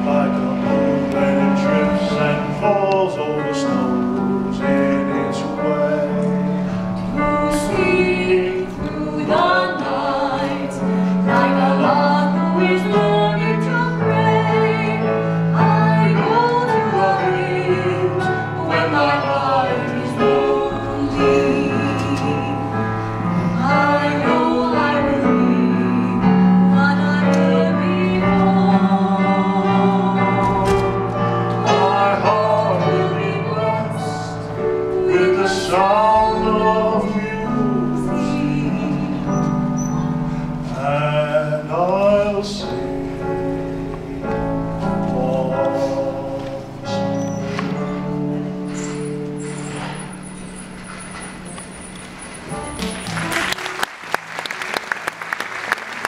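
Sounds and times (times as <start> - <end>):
man and woman singing duet: 0.0 - 49.1
instrumental accompaniment: 0.0 - 54.7.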